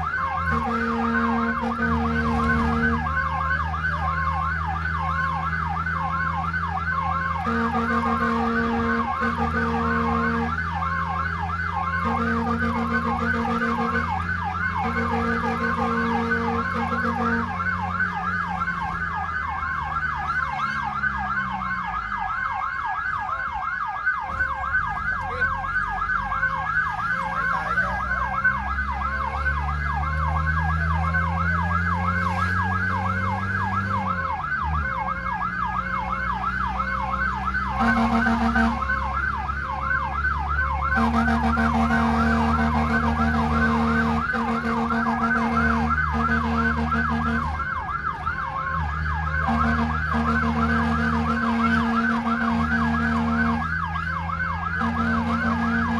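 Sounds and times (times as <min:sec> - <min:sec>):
fire truck siren yelping: 0:00.0 - 0:55.9
horn blaring: 0:00.0 - 0:55.9
truck engine running: 0:00.0 - 0:55.9.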